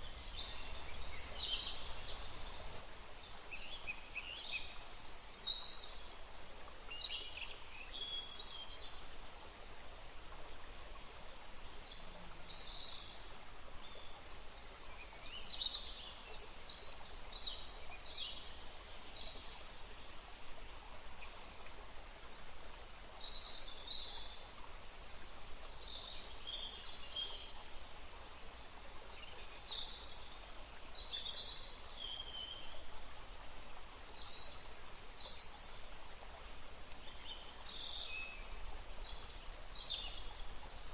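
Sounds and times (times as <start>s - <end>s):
flowing water: 0.0s - 40.9s
songbirds chirping: 0.0s - 40.9s
wind in trees: 0.0s - 40.9s.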